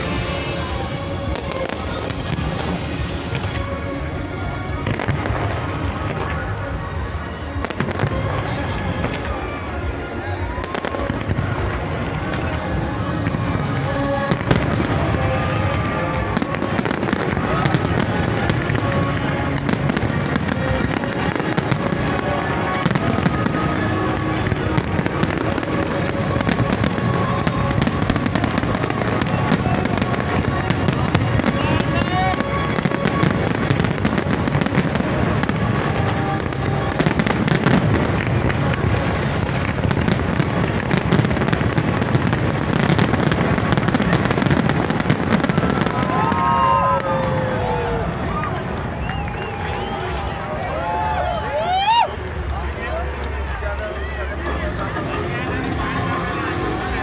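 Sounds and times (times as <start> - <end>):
fireworks bangs and crackling: 0.0 - 57.0
music playing: 0.0 - 57.0.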